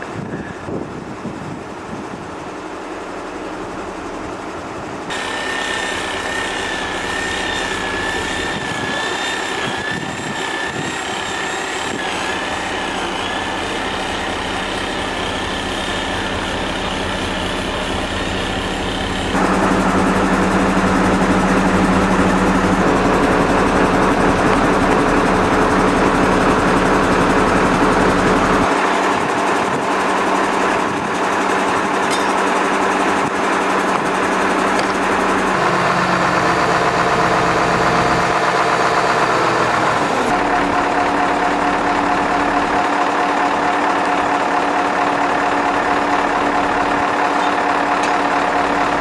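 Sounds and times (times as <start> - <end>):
crane engine and hydraulics running: 0.0 - 49.0
wavering high whine: 2.3 - 49.0.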